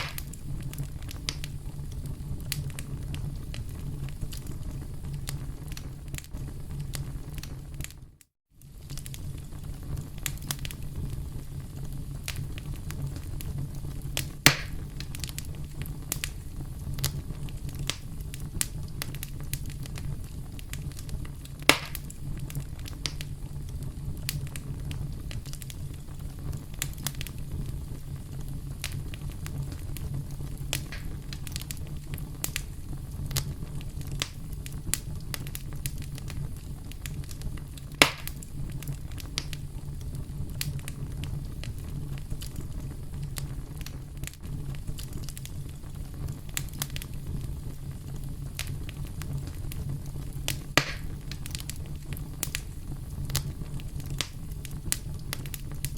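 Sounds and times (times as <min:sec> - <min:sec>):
campfire crackling: 0:00.0 - 0:55.9
loud fire snaps: 0:00.0 - 0:55.9.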